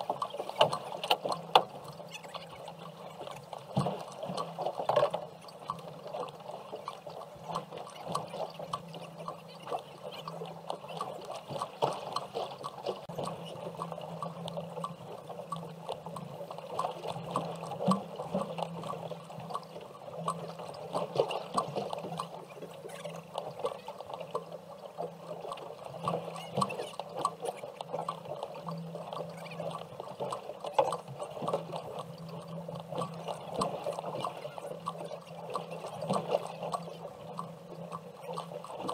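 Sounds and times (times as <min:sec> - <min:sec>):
water splashing around boat: 0:00.0 - 0:38.9.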